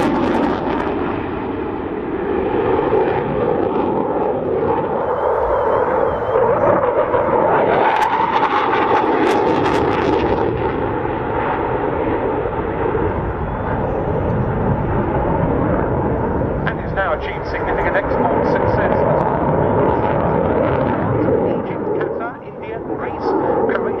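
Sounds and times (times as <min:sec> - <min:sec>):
jet engine noise: 0:00.0 - 0:24.0
jet crackling: 0:04.3 - 0:24.0.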